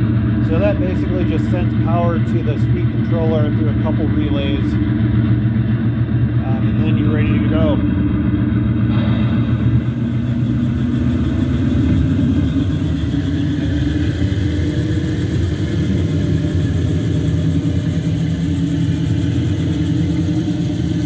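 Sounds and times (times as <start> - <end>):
simulated diesel engine rumble: 0.0 - 21.0.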